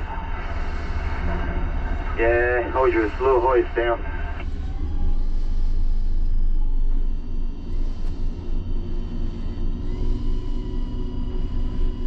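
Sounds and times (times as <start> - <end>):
crane machinery low rumble: 0.0 - 12.0
faint whining tones: 0.0 - 12.0.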